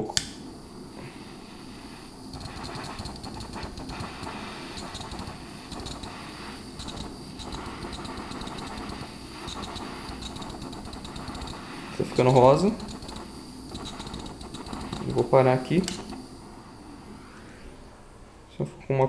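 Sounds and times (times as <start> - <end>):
butane torch hissing: 0.0 - 18.2.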